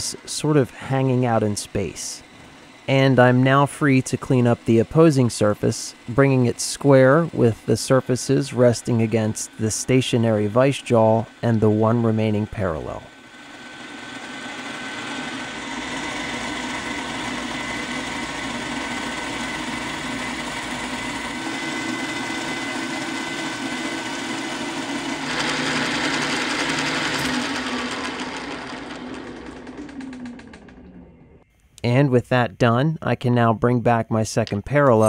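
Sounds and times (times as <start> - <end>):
milling machine cutting metal: 0.0 - 31.4
spindle whine: 0.0 - 32.8.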